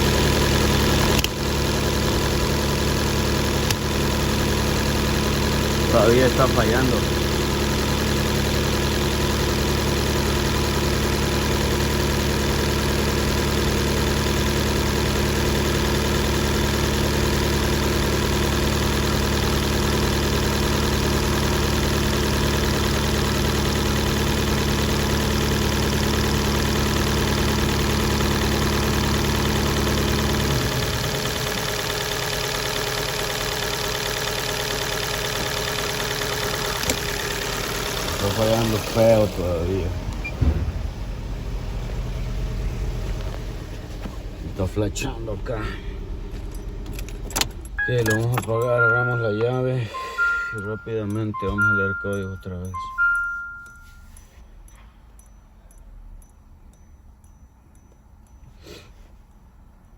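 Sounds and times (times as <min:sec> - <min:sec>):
car engine misfiring: 0:00.0 - 0:54.0.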